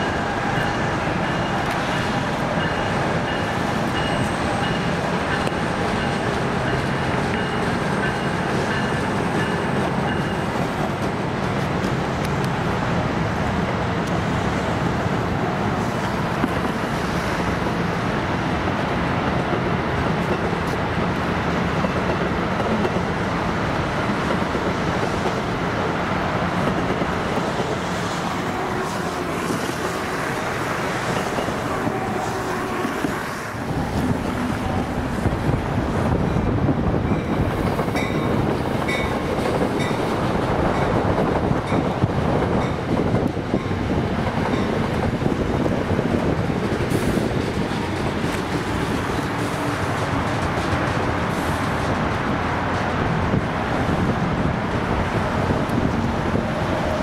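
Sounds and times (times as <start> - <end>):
thin locomotive whine: 0.0 - 57.0
train rumbling past: 0.0 - 57.0.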